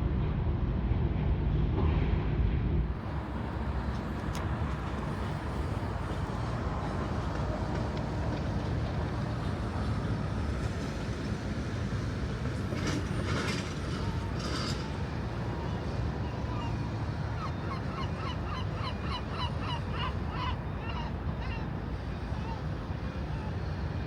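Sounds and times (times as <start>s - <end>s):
vehicle rumbling under way: 2.0s - 24.0s.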